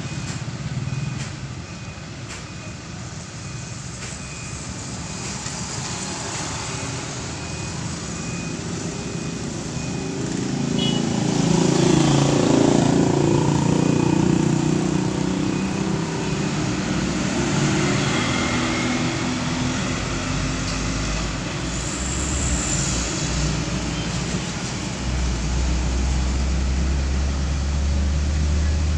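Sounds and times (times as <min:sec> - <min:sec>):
deep rumble of lorry engines: 0:00.0 - 0:28.9
tyres on the road: 0:00.0 - 0:28.9
vehicle engines running: 0:00.0 - 0:28.9.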